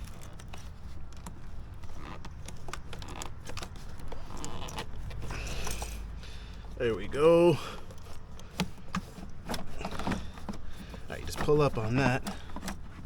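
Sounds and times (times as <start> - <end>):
clicks taps and rattles of parts: 0.0 - 6.8, 7.6 - 13.0.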